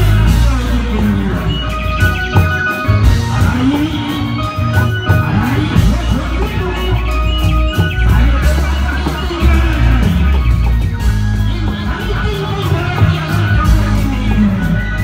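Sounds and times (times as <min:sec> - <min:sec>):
drum beat: 0:00.0 - 0:15.0
held keyboard notes: 0:00.0 - 0:15.0
loud music with heavy bass: 0:00.0 - 0:15.0.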